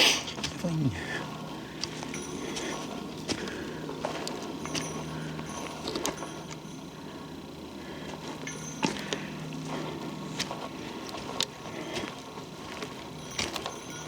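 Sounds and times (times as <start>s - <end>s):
steady low hum: 0.0s - 14.0s
footsteps on forest trail: 0.2s - 14.0s.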